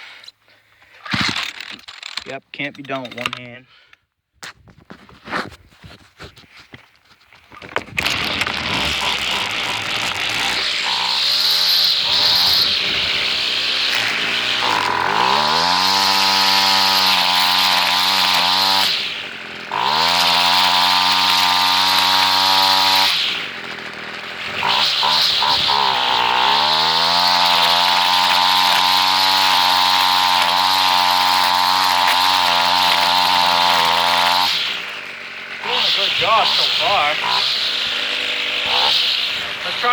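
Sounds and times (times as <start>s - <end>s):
string trimmer revving: 7.5s - 39.9s.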